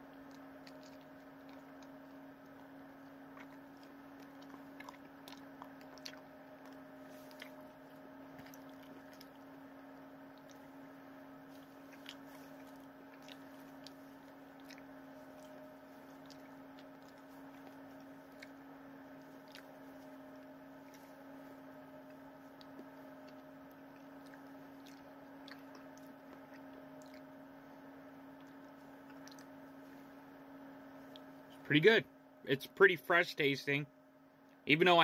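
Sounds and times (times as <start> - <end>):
person chewing food: 0.0 - 30.2
low electrical hum: 0.0 - 35.0.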